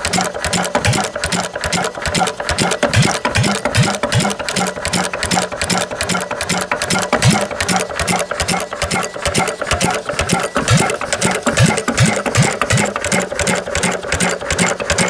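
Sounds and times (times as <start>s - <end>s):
stationary engine running: 0.0s - 15.0s.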